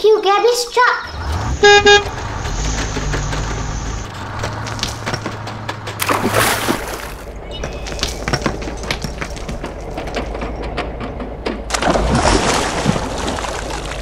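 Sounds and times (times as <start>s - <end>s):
gravel crunching under wheels: 0.0s - 14.0s
toy truck engine rumble: 0.9s - 6.4s, 7.1s - 14.0s.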